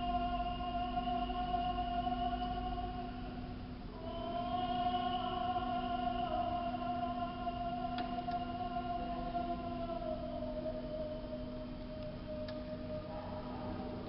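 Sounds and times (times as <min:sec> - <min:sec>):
long sung notes: 0:00.0 - 0:14.0
steady hum: 0:00.0 - 0:14.0.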